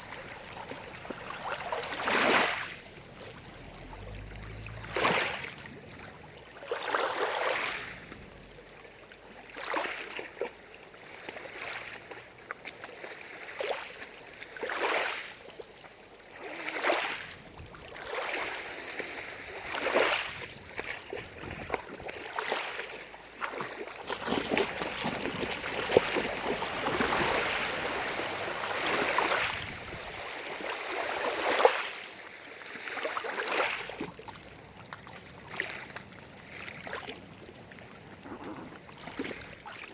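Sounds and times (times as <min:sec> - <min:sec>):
waves lapping at shore: 0:00.0 - 0:39.9.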